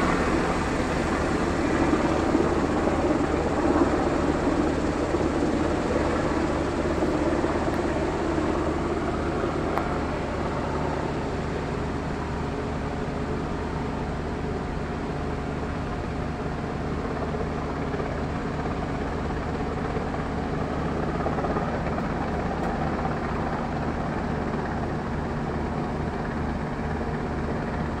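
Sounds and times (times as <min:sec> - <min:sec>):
helicopter flying overhead: 0:00.0 - 0:28.0
low machinery hum: 0:00.0 - 0:28.0.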